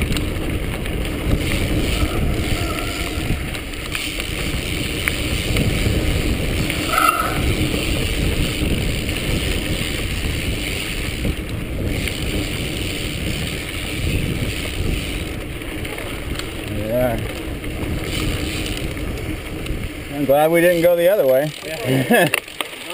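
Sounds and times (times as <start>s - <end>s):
wind rush on microphone: 0.0s - 22.3s
bike rattling over bumps: 0.0s - 22.9s
bike tyre noise: 0.0s - 22.9s.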